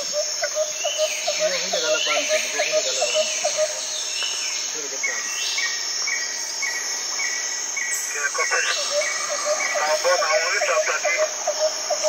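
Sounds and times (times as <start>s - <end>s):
insects buzzing in grass: 0.0s - 12.0s.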